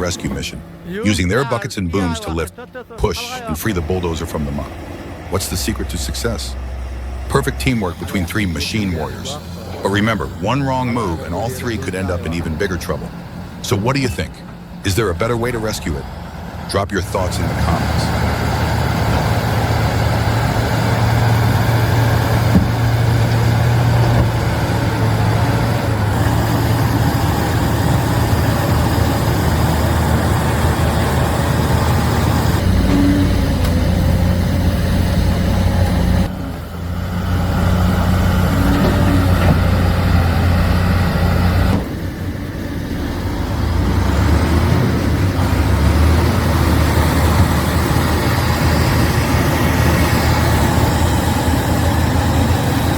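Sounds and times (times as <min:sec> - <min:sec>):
heavy diesel engines running: 0:00.0 - 0:52.9.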